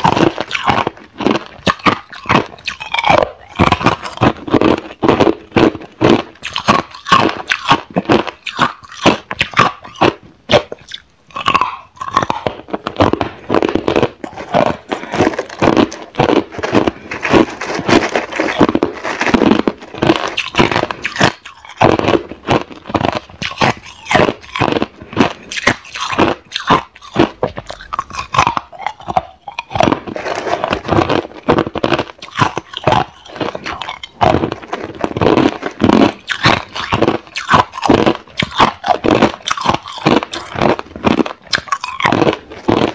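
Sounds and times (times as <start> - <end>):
ice crunching while chewed: 0.0 - 42.9.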